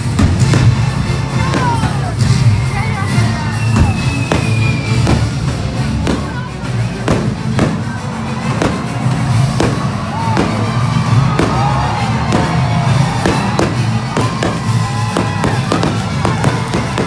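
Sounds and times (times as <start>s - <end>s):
fireworks bursting: 0.0s - 17.0s
music: 0.0s - 17.0s.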